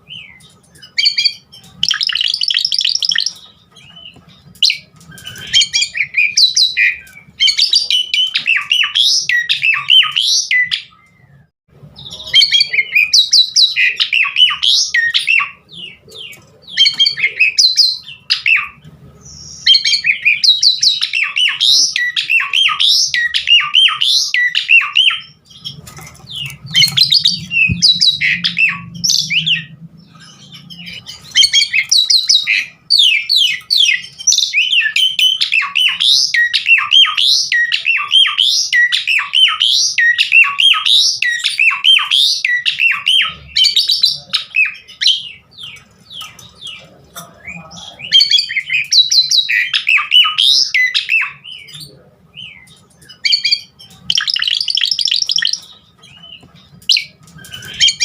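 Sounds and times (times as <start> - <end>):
starling singing and chattering: 0.0 - 58.0.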